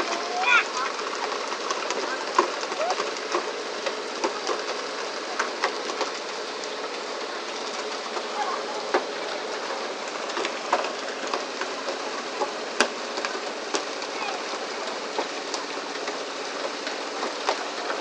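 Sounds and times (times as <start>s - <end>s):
water spraying along hull: 0.0s - 18.0s.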